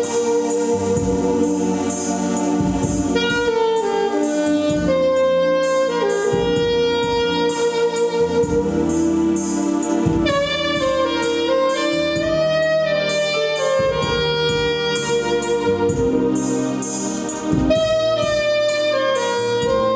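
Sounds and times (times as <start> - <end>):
bass: 0.0 - 19.9
drums: 0.0 - 19.9
jazz saxophone melody: 0.0 - 19.9.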